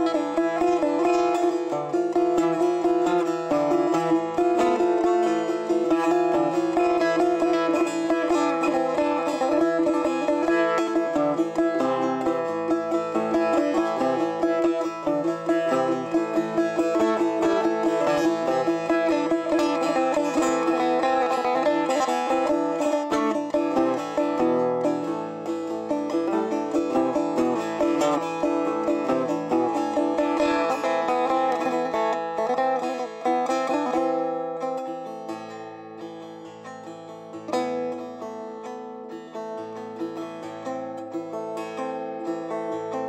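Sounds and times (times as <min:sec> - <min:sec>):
plucked string instrument: 0:00.0 - 0:43.0.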